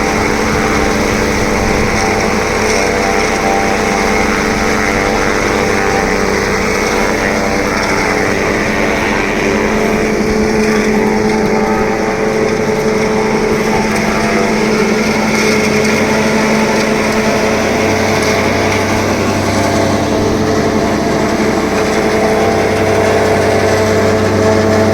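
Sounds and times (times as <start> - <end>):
tractor engine droning: 0.0 - 24.9.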